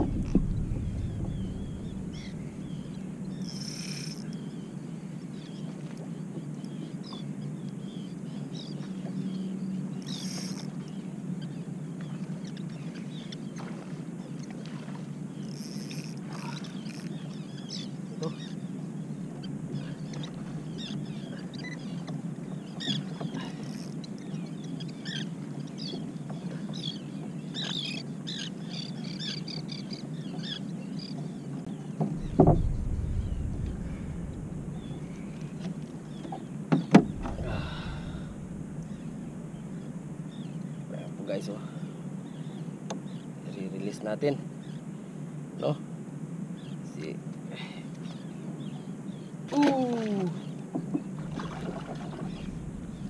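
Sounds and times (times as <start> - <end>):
water washing around hull: 0.0 - 30.6, 31.3 - 41.6, 49.5 - 53.0.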